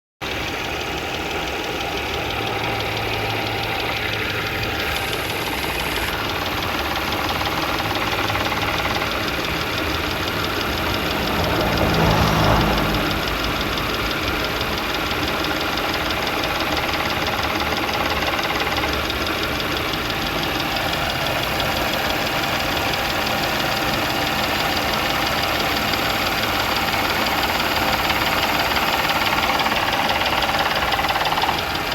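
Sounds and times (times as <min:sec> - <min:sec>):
engine running: 0:00.2 - 0:31.9
rapid engine knocking: 0:00.2 - 0:31.9.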